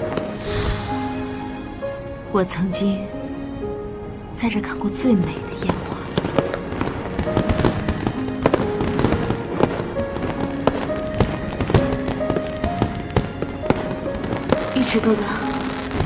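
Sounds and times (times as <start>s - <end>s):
background music with held notes: 0.0s - 16.0s.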